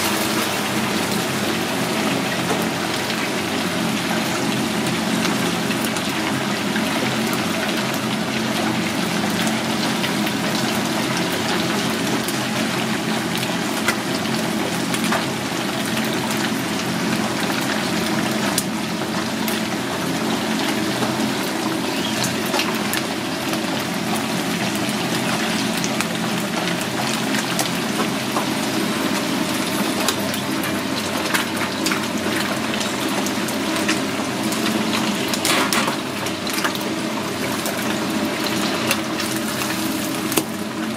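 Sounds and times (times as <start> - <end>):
battered fish deep-frying in oil: 0.0 - 40.9.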